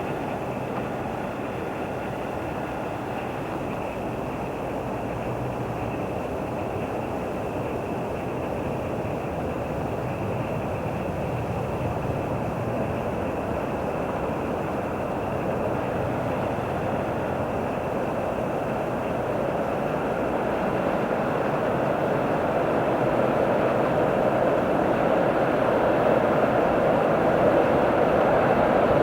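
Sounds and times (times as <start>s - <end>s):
train rumbling on track: 0.0s - 29.0s.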